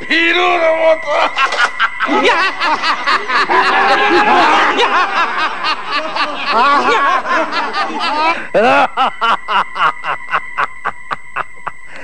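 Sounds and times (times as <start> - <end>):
group of men laughing: 1.0 - 12.0.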